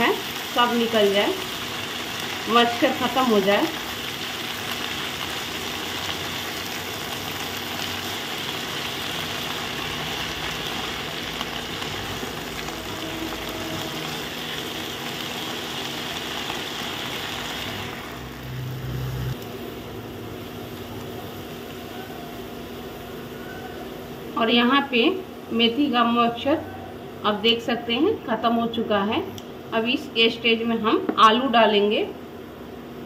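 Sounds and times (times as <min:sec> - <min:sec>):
leaves sizzling in hot oil: 0:00.0 - 0:26.5.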